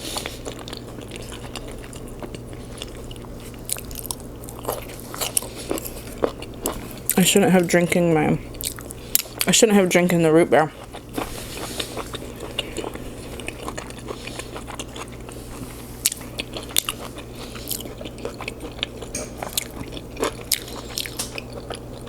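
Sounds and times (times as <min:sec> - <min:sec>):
chewing with wet mouth smacking: 0:00.1 - 0:22.0.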